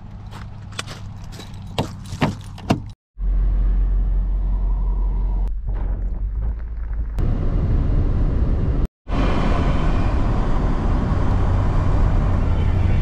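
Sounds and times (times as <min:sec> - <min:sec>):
car interior road and engine noise: 0:00.0 - 0:05.6, 0:06.8 - 0:13.0.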